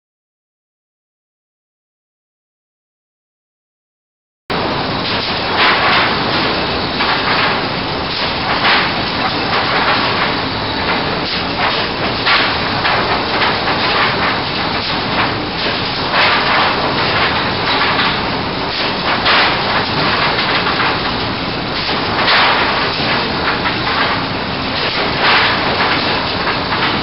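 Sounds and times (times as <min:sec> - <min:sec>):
loud machine din with hiss: 0:04.5 - 0:27.0
boards clattering knocks: 0:05.1 - 0:27.0.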